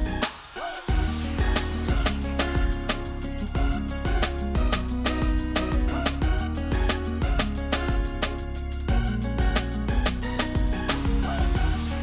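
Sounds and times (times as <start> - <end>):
background music with steady beat: 0.0 - 12.0
plucked string notes: 0.9 - 12.0.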